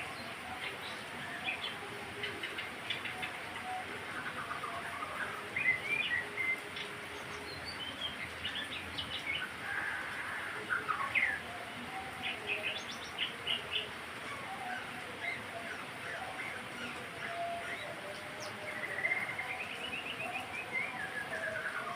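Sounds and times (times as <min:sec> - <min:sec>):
faint steady hiss: 0:00.0 - 0:21.9
songbird singing: 0:00.0 - 0:21.9.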